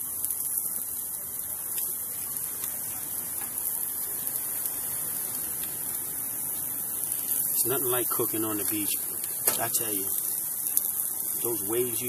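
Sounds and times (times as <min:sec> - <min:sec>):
fish sizzling on a grill: 0:00.0 - 0:12.0.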